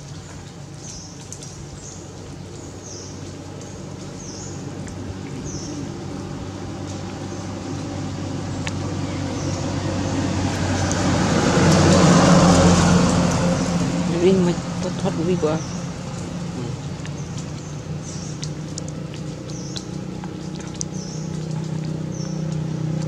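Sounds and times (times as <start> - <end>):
vehicle engine approaching: 0.0 - 23.0.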